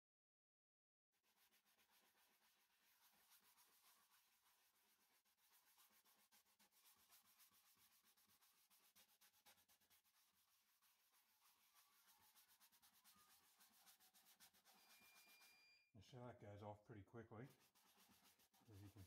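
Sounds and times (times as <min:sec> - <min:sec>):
cloth rasping on wooden bowl: 0:01.2 - 0:15.7, 0:17.4 - 0:19.0.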